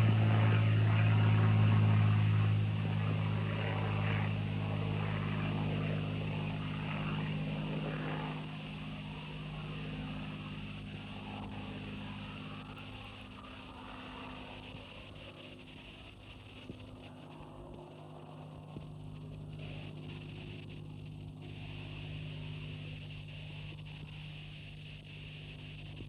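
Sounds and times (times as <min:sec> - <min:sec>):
aircraft engine drone: 0:00.0 - 0:26.0.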